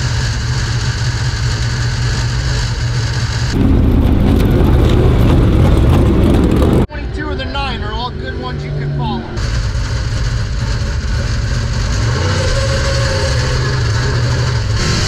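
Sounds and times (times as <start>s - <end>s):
race car engine idling: 0.0s - 15.0s.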